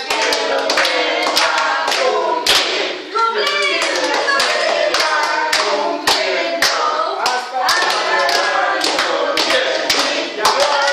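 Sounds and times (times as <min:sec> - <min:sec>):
group singing: 0:00.0 - 0:10.9
people clapping: 0:00.0 - 0:10.9.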